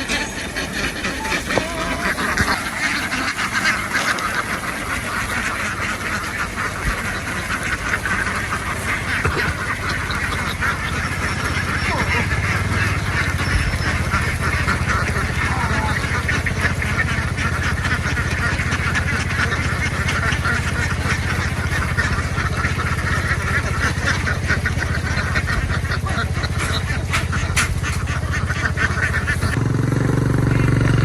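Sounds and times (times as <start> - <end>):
flock of ducks quacking: 0.0 - 31.0
vehicle engine running: 0.0 - 31.0.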